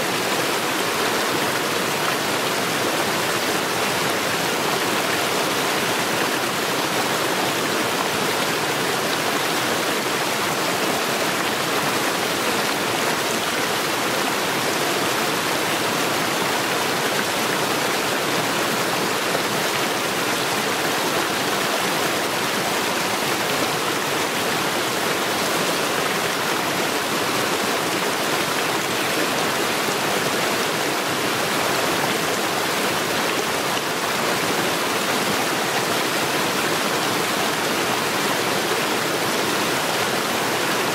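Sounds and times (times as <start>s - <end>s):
stream rushing over stones: 0.0s - 40.9s.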